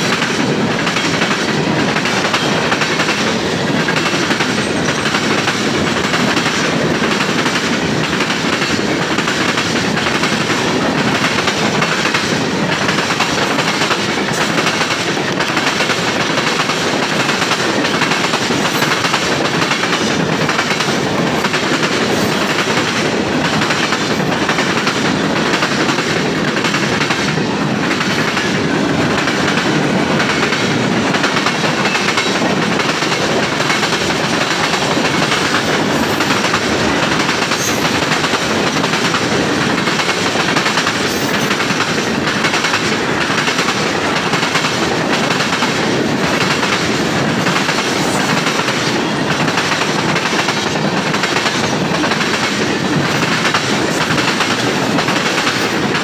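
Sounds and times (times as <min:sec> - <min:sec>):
freight train rumble: 0:00.0 - 0:56.0
wheels clacking over rail joints: 0:00.0 - 0:56.0.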